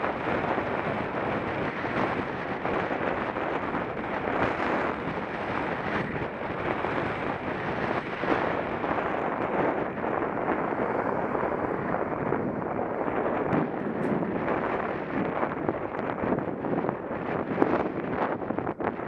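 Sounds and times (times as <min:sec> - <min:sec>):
wind on camera microphone: 0:00.0 - 0:19.0.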